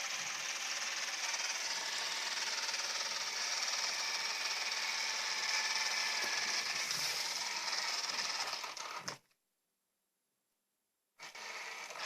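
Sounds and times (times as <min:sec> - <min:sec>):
robot vacuum cleaner whirring: 0:00.0 - 0:09.2, 0:11.2 - 0:12.0.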